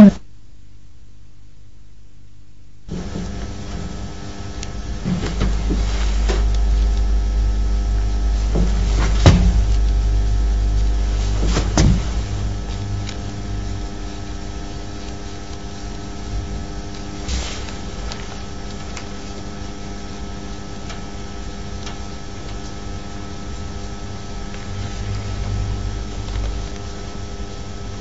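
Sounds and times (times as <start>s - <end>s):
electrical hum with low rumble: 0.0s - 28.0s.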